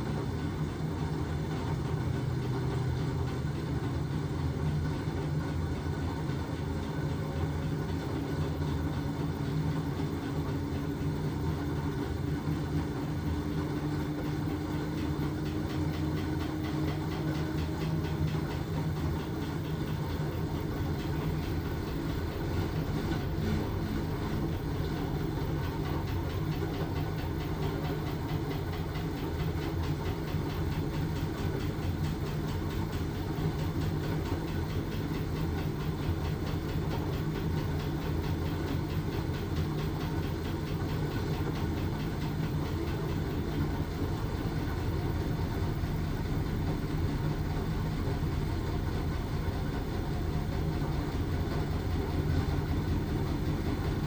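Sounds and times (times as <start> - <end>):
washing machine rumbling: 0.0 - 54.0.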